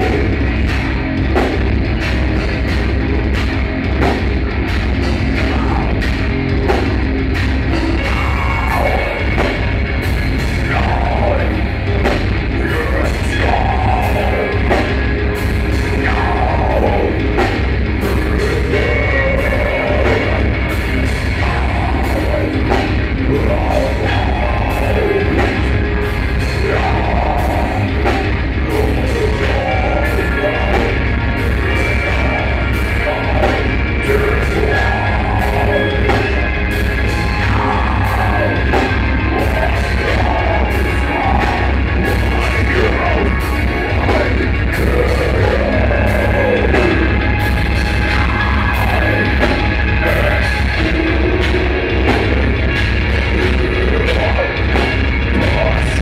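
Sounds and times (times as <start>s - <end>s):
bass guitar: 0.0s - 56.0s
drums with steady cymbal beat: 0.0s - 56.0s
electric guitar: 0.0s - 56.0s
person singing: 7.7s - 9.8s, 10.5s - 56.0s.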